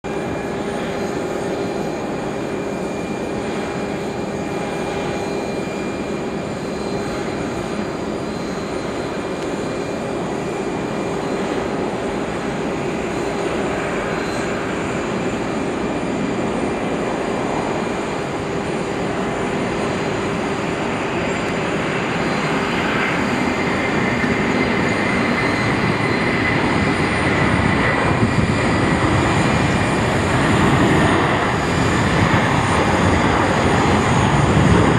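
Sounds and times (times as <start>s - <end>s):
jet engine roar: 0.0s - 34.9s
jet engine whine: 0.0s - 34.9s.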